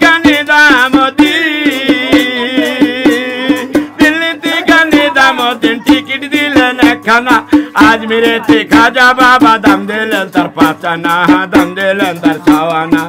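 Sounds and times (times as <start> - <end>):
man singing folk song: 0.0 - 13.0
metal water pot drum beat: 0.0 - 13.0.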